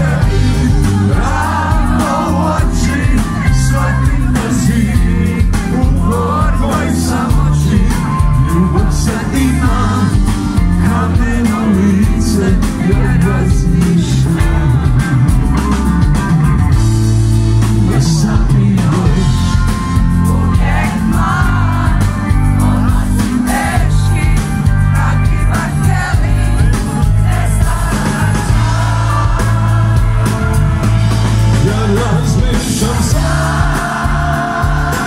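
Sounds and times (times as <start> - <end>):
man singing lead vocal: 0.0 - 16.3, 17.2 - 35.0
live band playing: 0.0 - 35.0.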